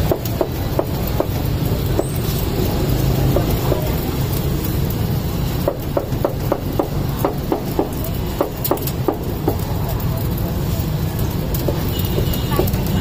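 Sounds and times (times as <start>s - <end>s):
low street traffic rumble: 0.0s - 13.0s.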